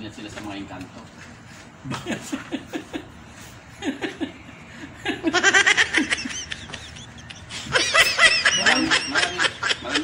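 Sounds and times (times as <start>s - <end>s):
men laughing: 1.8s - 10.0s.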